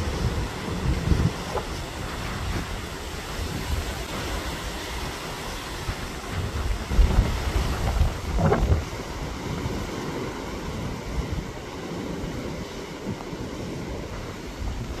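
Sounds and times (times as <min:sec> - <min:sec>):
sea surf breaking on shore: 0:00.0 - 0:15.0
wind buffeting microphone: 0:00.0 - 0:15.0.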